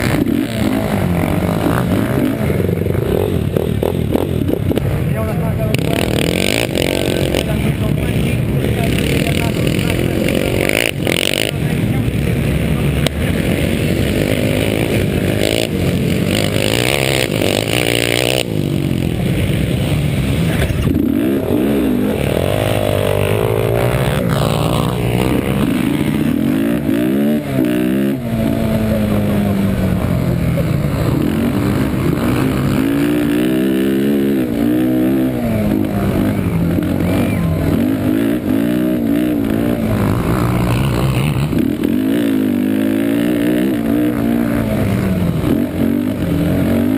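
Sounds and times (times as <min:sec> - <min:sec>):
quad engine racing: 0:00.0 - 0:46.9.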